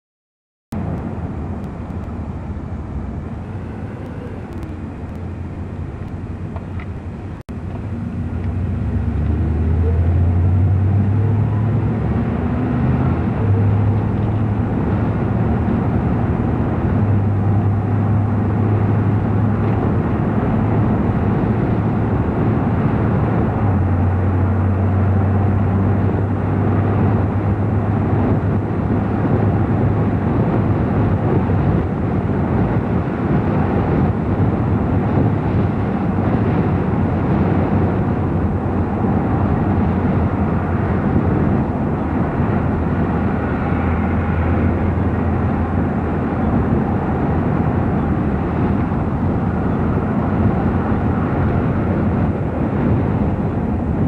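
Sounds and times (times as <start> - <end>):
car engine and road noise: 0.7 - 54.0.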